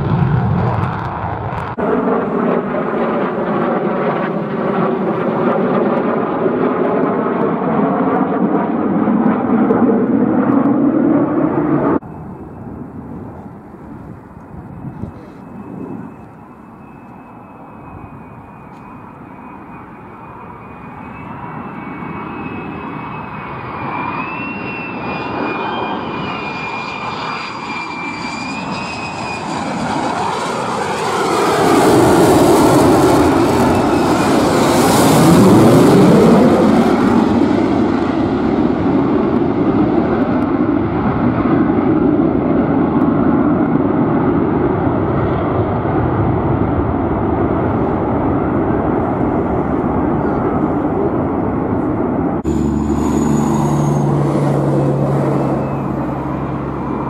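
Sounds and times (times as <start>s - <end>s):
jet engine passing overhead: 0.0s - 57.0s.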